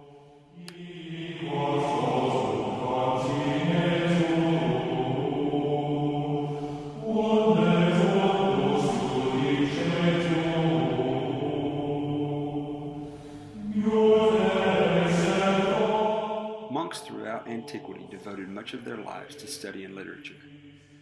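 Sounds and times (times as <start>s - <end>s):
men chanting over low drone: 0.0s - 21.0s.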